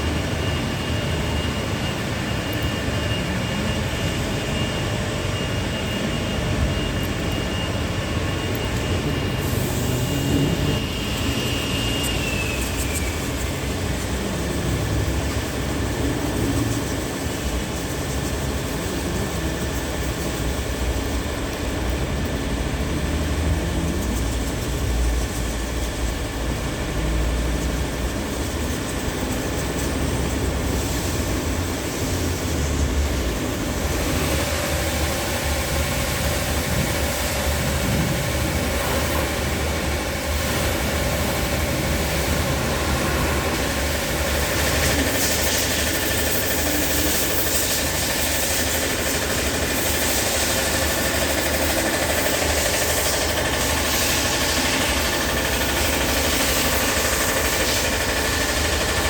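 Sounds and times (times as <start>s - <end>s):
car wash machinery running: 0.0s - 59.0s.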